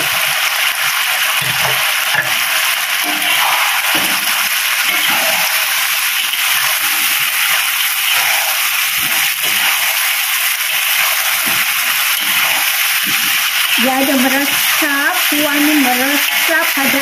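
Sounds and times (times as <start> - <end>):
food sizzling in a wok: 0.0 - 17.0
spatula stirring in wok: 2.9 - 17.0.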